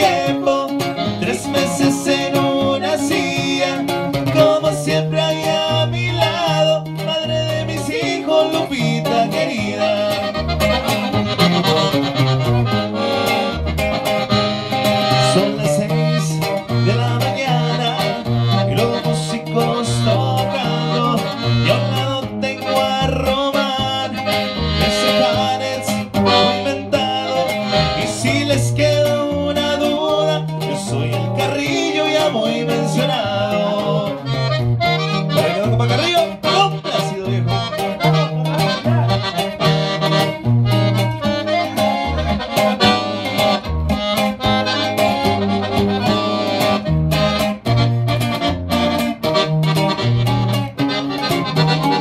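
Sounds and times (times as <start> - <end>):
accordion melody: 0.0 - 52.0
strummed guitar: 0.0 - 52.0
walking bass line: 0.0 - 52.0.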